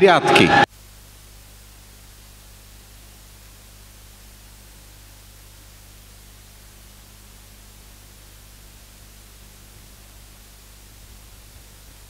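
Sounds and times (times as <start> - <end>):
electrical hiss: 0.0 - 12.0
low mains hum: 0.0 - 12.0.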